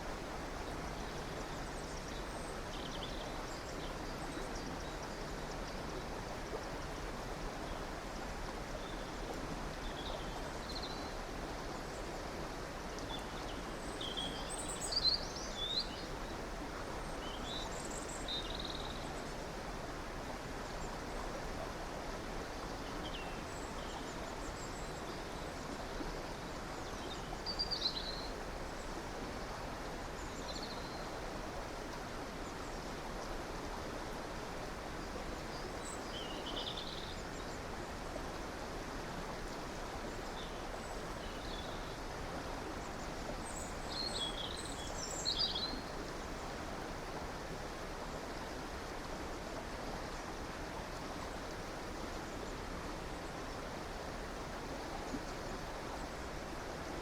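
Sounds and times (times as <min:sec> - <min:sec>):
stream rushing: 0:05.2 - 0:57.0.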